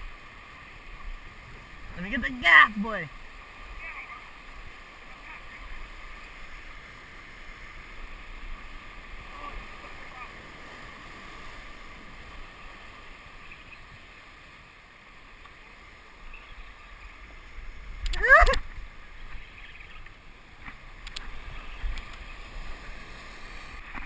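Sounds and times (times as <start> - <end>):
ocean surf washing ashore: 0.0 - 24.0.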